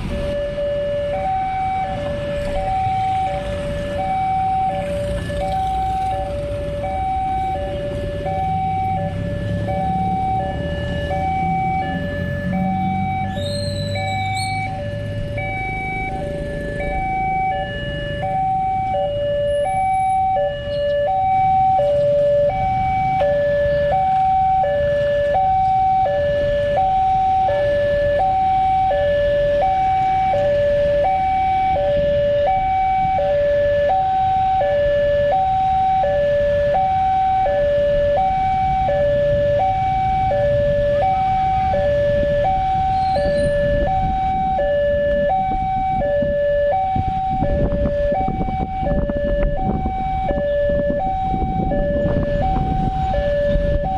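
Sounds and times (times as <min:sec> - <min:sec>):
two-tone crossing alarm chime: 0:00.3 - 0:53.9.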